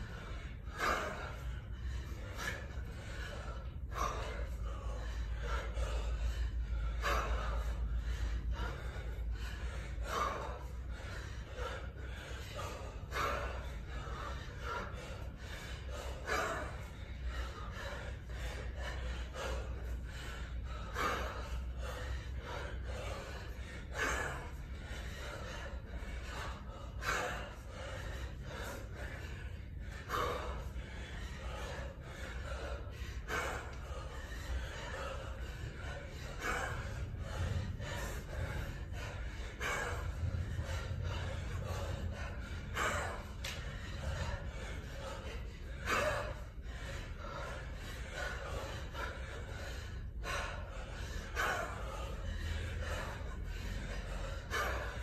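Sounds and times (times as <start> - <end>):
man breathing hard: 0.0 - 55.0.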